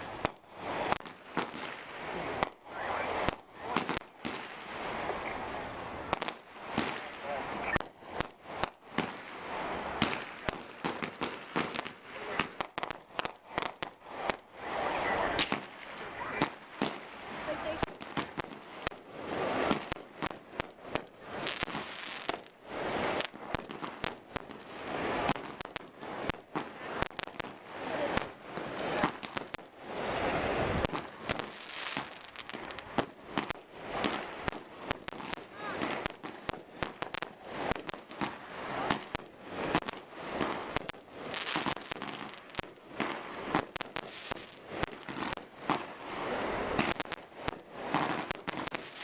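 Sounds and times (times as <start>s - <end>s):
crackling hiss: 0.0s - 49.0s
fireworks bursting with sharp bangs: 0.0s - 49.0s.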